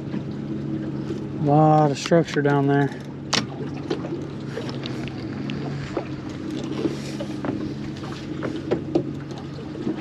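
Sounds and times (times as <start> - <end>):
outboard motor idling: 0.0 - 10.0
water noise: 0.0 - 10.0
wind: 0.0 - 10.0.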